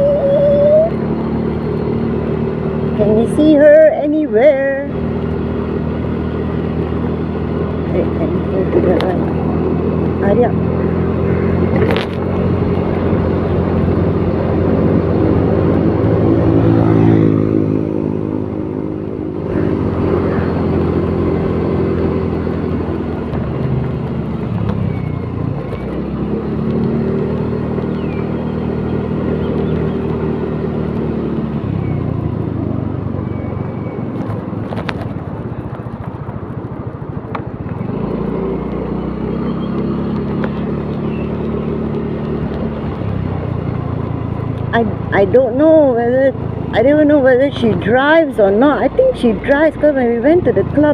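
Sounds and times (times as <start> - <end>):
car engine: 0.0 - 50.9
road noise inside car: 0.0 - 50.9.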